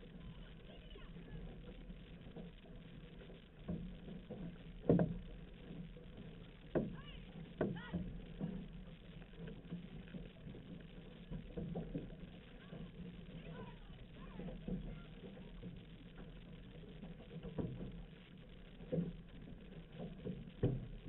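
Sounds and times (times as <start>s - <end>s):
canoe paddles dipping in water: 0.0s - 21.0s
water rushing along hull: 0.0s - 21.0s.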